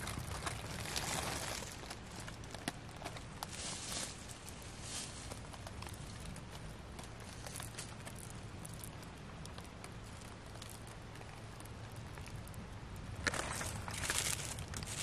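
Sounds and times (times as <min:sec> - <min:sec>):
dry leaves crackling: 0:00.0 - 0:15.0
low background hiss and hum: 0:00.0 - 0:15.0.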